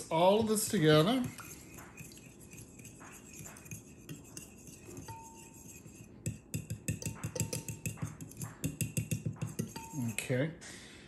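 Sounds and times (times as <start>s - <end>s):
fork clinking and scraping on glass: 1.2s - 10.3s.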